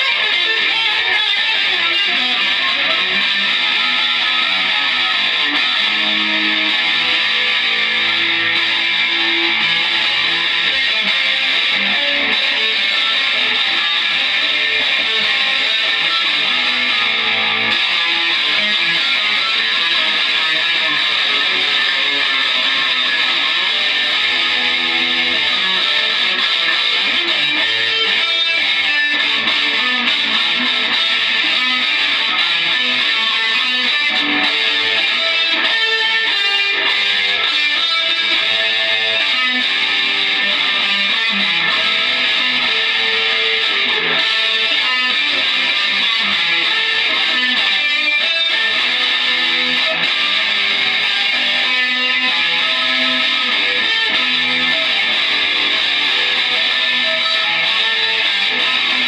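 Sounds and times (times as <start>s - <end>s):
loud electric guitar: 0.0s - 59.0s.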